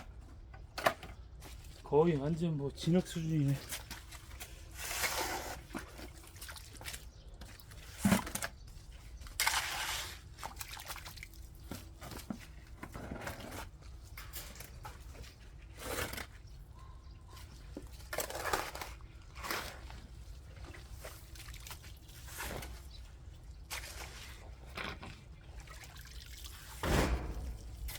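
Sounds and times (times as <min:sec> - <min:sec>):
shovel digging wet clay: 0:03.4 - 0:27.9.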